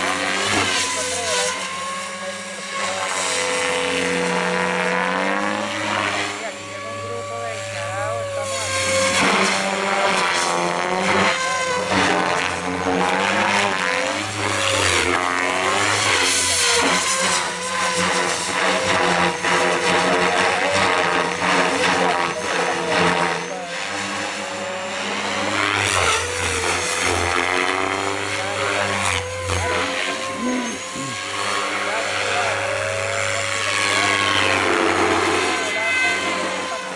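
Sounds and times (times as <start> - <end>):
model helicopter whine and rotor: 0.0 - 36.9.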